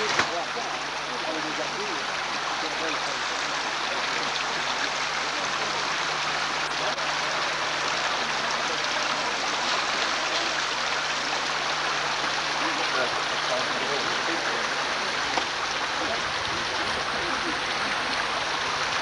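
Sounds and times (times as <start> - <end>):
faint distant voices: 0.0 - 11.6, 12.2 - 19.0
low steady hum: 0.0 - 19.0.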